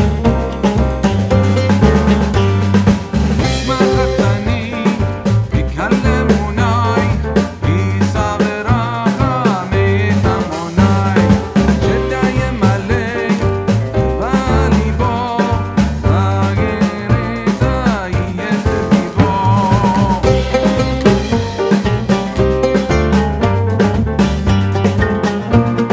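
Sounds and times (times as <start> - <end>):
drum kit and bass beat: 0.0 - 25.9.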